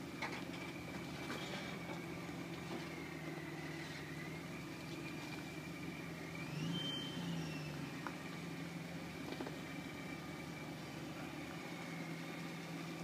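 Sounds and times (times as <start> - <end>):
engine running at low revs: 0.0 - 13.0
high supercharger whine: 0.0 - 13.0.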